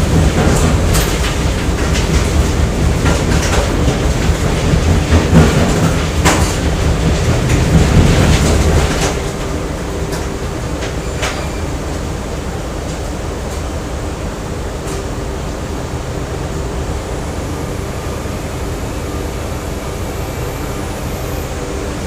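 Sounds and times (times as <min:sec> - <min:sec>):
factory machinery rumble: 0:00.0 - 0:22.0.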